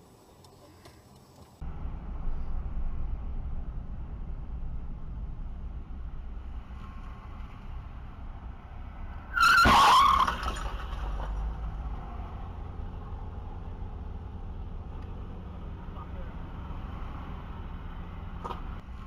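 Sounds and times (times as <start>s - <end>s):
car road noise: 0.0s - 19.0s
tyres skidding and impact: 0.8s - 19.0s.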